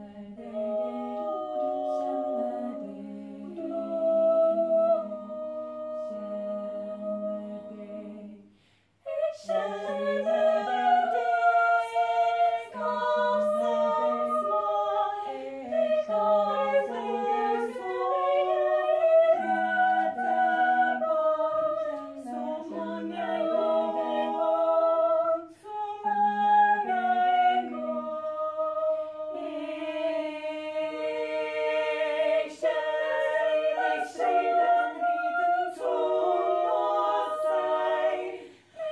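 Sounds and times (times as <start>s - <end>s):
women singing a cappella: 0.0s - 38.9s.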